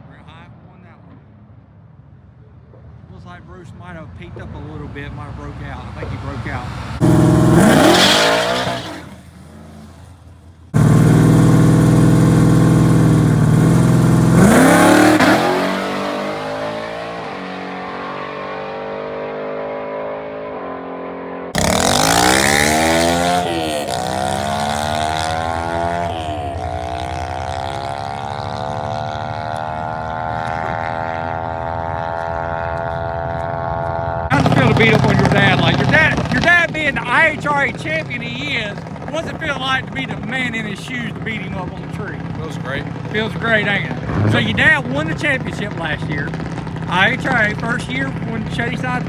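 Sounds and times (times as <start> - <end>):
race car engines revving: 4.2 - 49.0.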